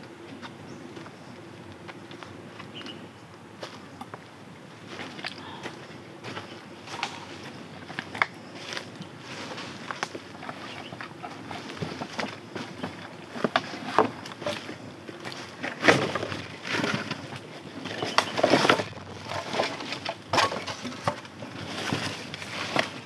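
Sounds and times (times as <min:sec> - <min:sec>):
dry leaves and twigs crackling: 0:03.6 - 0:23.0.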